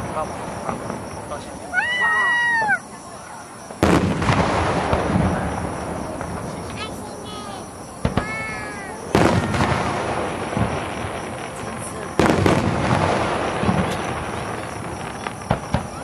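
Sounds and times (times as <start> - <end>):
firework booms with echo: 0.0 - 2.6, 3.7 - 16.0.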